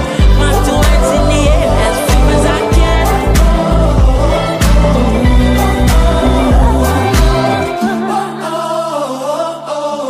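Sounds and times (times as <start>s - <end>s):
gospel song with bass and drums: 0.0s - 9.8s.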